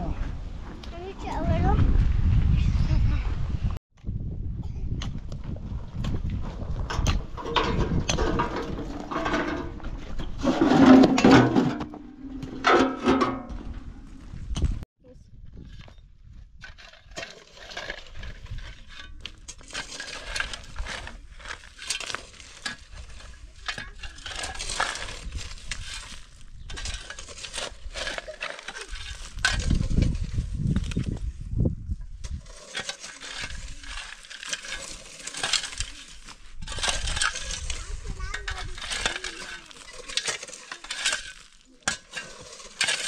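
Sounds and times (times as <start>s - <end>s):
shovels scraping stony soil: 6.2s - 14.8s, 16.6s - 31.4s, 32.0s - 43.0s.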